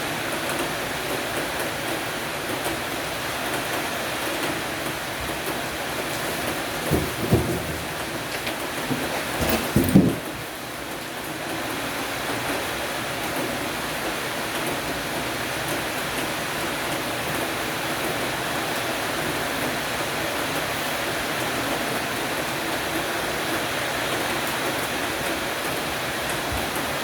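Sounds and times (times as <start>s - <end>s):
rain on a porch roof: 0.0s - 27.0s.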